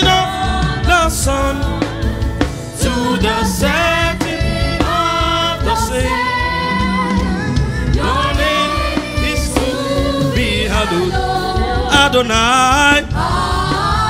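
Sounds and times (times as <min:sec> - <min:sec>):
gospel instrumental backing: 0:00.0 - 0:14.0.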